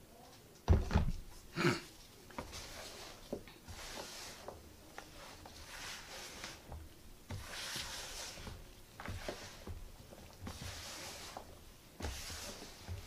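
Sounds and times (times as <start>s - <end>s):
mixture scraping in a bowl: 2.4s - 13.0s.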